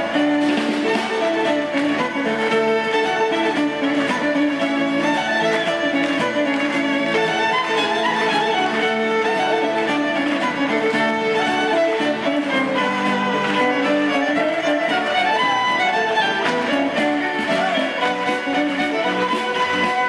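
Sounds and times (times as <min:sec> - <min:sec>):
drums: 0:00.0 - 0:20.0
electric guitar: 0:00.0 - 0:20.0
fiddle playing fast reel: 0:00.0 - 0:20.0
strummed acoustic guitar: 0:00.0 - 0:20.0.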